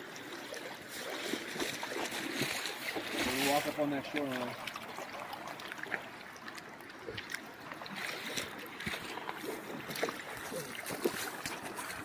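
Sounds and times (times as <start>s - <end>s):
river water running and lapping: 0.0s - 12.0s
small splashes: 0.0s - 12.0s.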